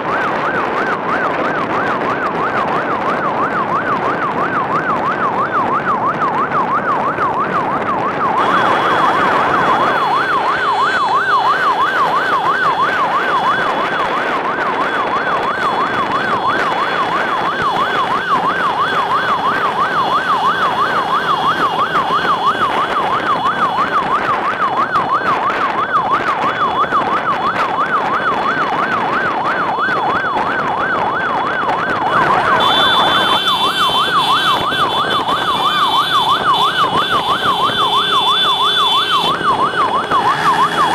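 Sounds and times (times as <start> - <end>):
motorcycle engines: 0.0 - 40.9
warbling siren: 0.0 - 40.9.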